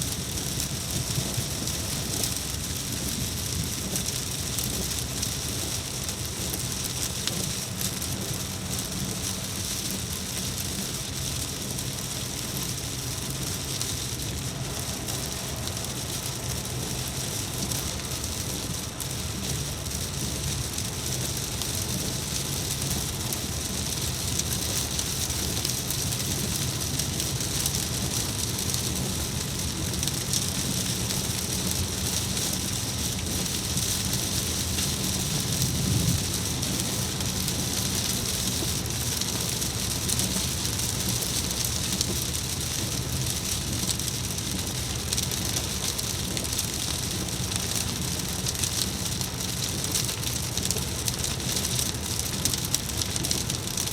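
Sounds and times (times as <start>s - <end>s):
steady low rumble: 0.0s - 47.2s
rain falling: 0.0s - 53.9s.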